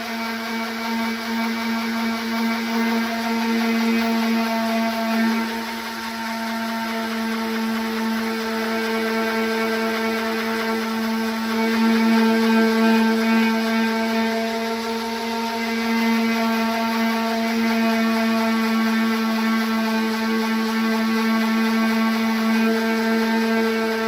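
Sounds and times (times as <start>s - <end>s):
orbital sander motor hum: 0.0s - 24.0s
sanding pad hissing on surface: 0.9s - 24.0s.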